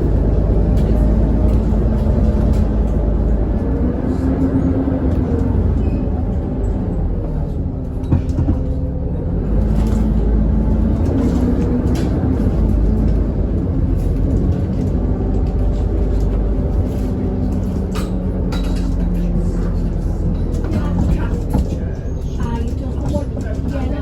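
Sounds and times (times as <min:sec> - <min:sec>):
interior clicks and rattles: 0:00.0 - 0:07.0, 0:07.7 - 0:24.0
bus diesel engine drone: 0:00.0 - 0:24.0.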